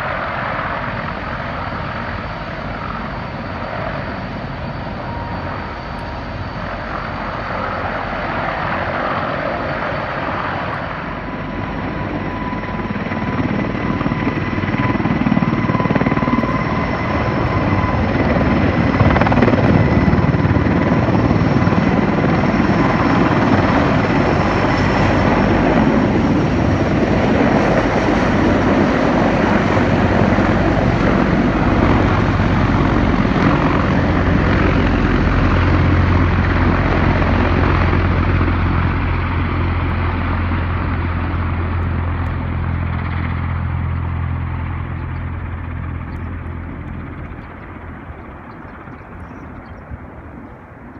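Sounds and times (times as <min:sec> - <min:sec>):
helicopter rotor rumble: 0:00.0 - 0:50.9
turbine engine whine: 0:00.0 - 0:50.9.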